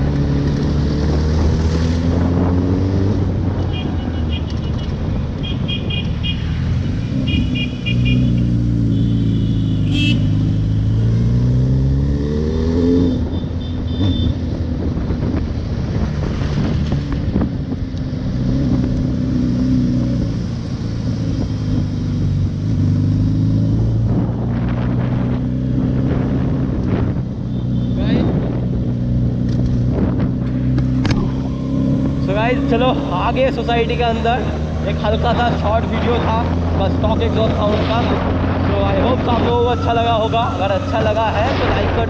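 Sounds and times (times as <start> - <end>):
motorcycle engine: 0.0 - 41.0.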